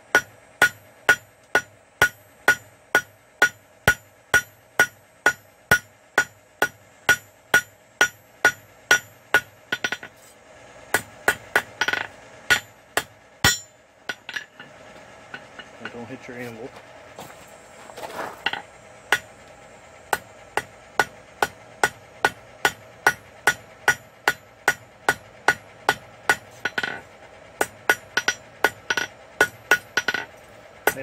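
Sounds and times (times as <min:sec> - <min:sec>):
hammer striking metal on anvil: 0:00.1 - 0:10.2, 0:10.9 - 0:16.0, 0:20.1 - 0:27.0, 0:27.6 - 0:31.0.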